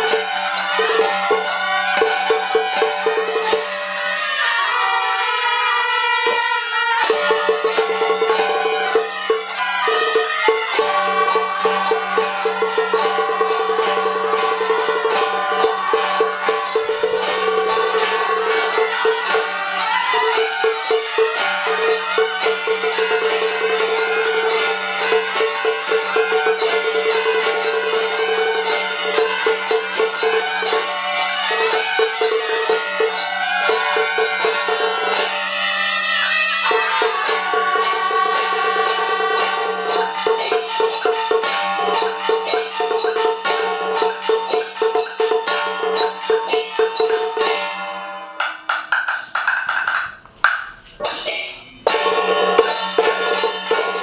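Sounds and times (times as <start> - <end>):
fast dense percussion: 0.0 - 54.0.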